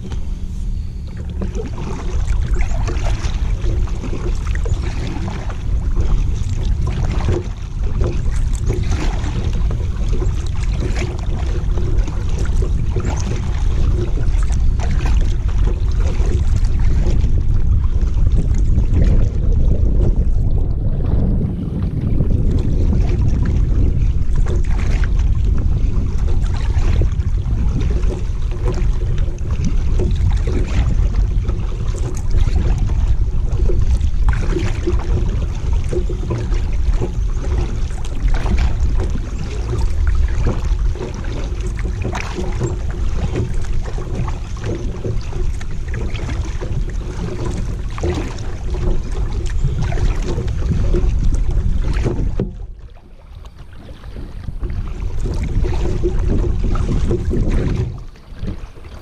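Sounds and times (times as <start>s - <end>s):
kayak paddle splashing: 0.0s - 59.0s
wind rumbling on microphone: 0.0s - 59.0s.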